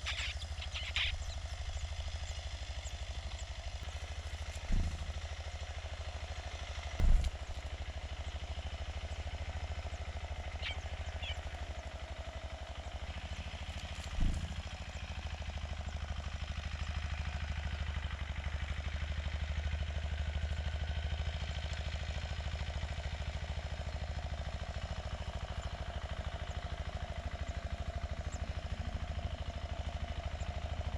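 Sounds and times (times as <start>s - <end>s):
engine humming: 0.0s - 30.9s.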